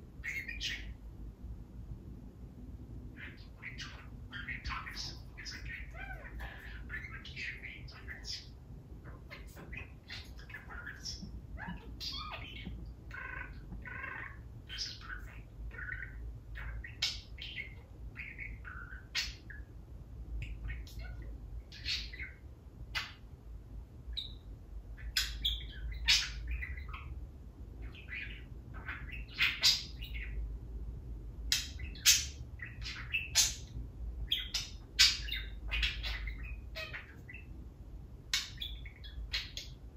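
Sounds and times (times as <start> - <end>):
budgerigar chirping and squawking: 0.2 - 1.0, 3.2 - 19.7, 20.4 - 23.3, 25.0 - 27.2, 27.8 - 30.4, 31.5 - 37.6, 38.3 - 39.8.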